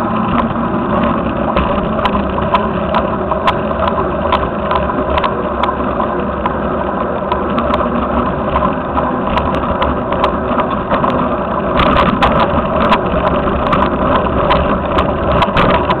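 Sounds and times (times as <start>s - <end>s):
rattles and knocks from bumps: 0.0s - 16.0s
wind and road noise: 0.0s - 16.0s.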